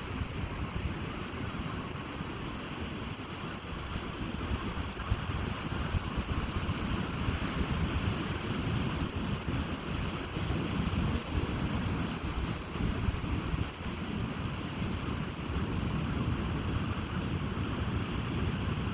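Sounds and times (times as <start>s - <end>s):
ocean surf washing on beach: 0.0s - 18.9s
wind buffeting microphone: 0.0s - 18.9s.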